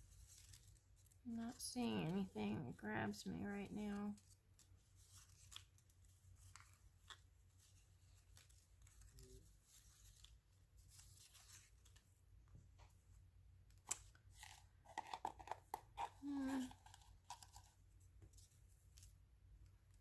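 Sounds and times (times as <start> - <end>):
paper rustling: 0.0 - 2.4, 3.2 - 19.2.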